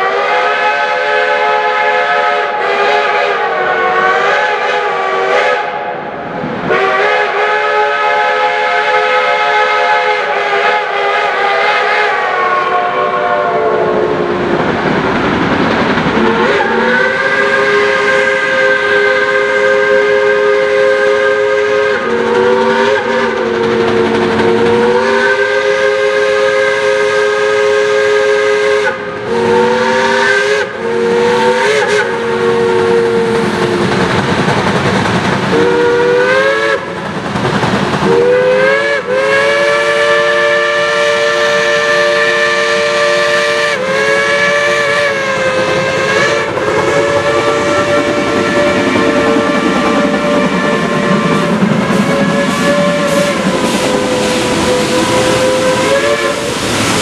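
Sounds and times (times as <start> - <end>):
steam whistles blowing: 0.0 - 6.1, 6.7 - 14.4, 16.2 - 34.1, 35.5 - 37.1, 38.0 - 57.0
steam hiss and exhaust: 0.0 - 57.0.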